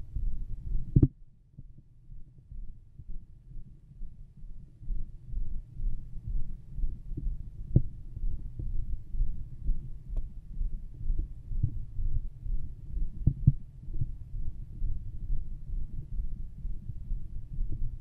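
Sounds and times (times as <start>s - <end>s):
heartbeat thumps through stethoscope: 0.0s - 18.0s
low rumble: 0.0s - 18.0s.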